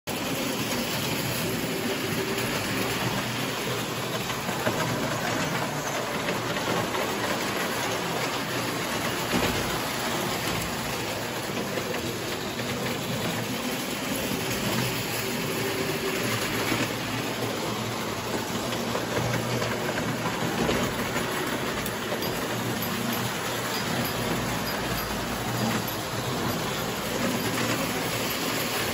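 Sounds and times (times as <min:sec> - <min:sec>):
toy train wheels rattling on track: 0:00.1 - 0:28.9.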